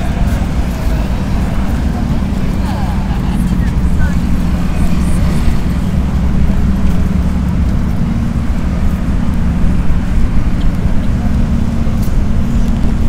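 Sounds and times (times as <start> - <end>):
engine humming: 0.0 - 13.0
low rumble: 0.0 - 13.0.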